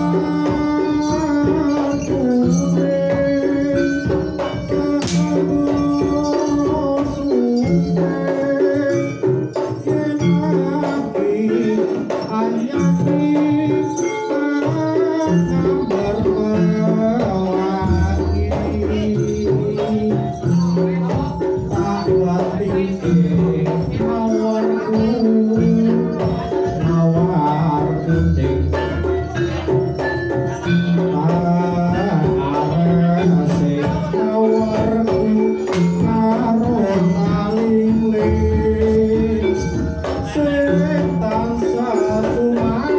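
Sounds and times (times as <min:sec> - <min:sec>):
busy percussion with jingling: 0:00.0 - 0:42.9
ensemble melodic line: 0:00.0 - 0:42.9.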